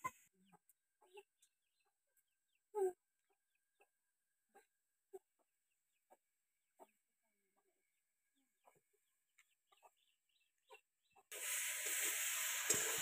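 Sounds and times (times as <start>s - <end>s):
hen clucking: 0.0s - 7.7s, 8.6s - 11.3s.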